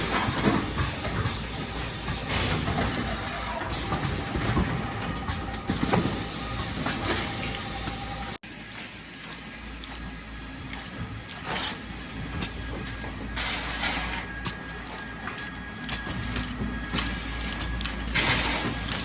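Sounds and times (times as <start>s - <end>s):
packaging machine mechanical din: 0.0s - 8.4s, 10.7s - 19.0s.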